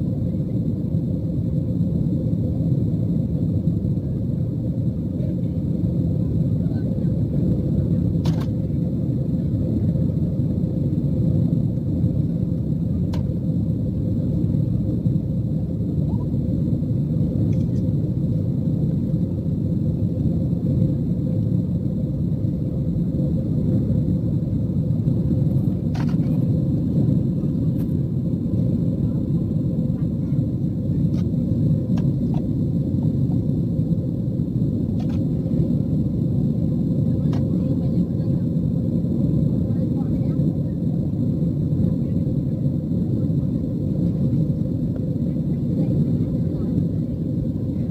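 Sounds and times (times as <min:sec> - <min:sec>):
jet engines roaring in cabin: 0:00.0 - 0:47.9.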